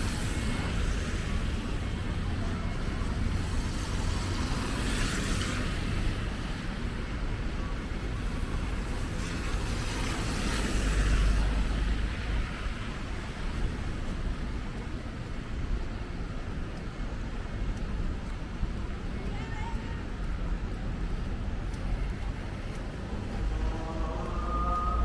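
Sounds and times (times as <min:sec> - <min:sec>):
cars passing: 0:00.0 - 0:15.2, 0:16.2 - 0:25.0.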